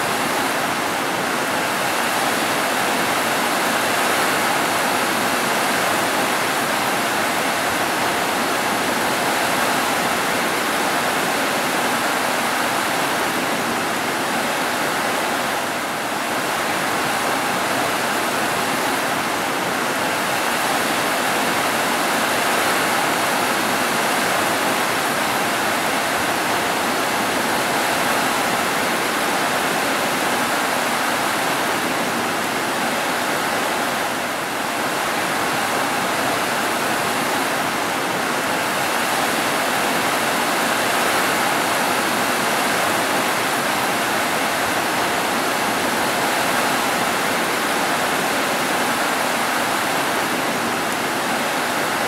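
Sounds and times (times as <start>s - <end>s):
rain falling on roofs: 0.0s - 52.0s.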